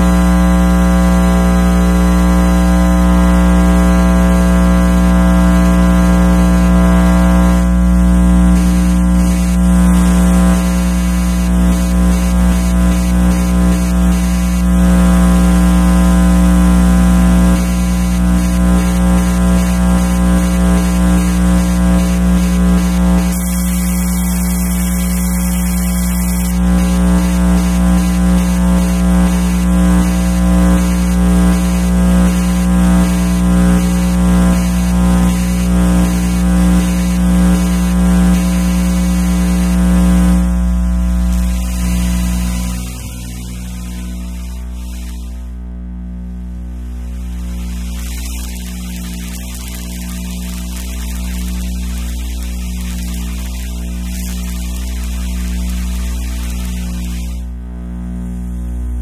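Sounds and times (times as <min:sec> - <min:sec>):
electrical hum and buzz: 0:00.0 - 0:59.0.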